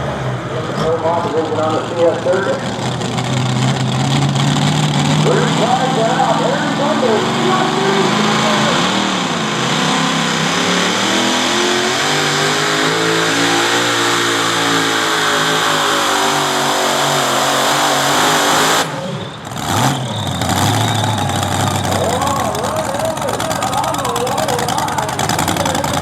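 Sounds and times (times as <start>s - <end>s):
truck engine revving under load: 0.0s - 26.0s.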